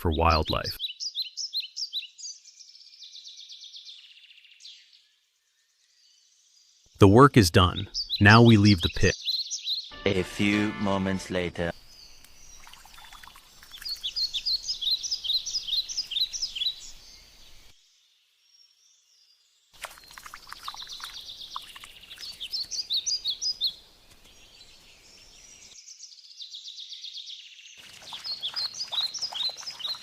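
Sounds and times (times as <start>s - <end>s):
songbird chirping: 0.0s - 30.0s.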